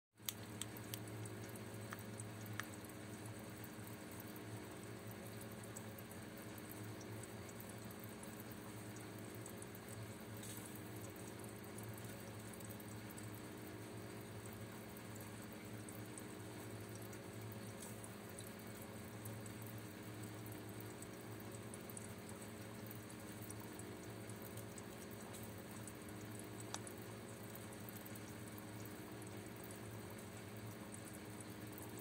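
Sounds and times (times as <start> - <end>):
low pump hum: 0.2 - 32.0.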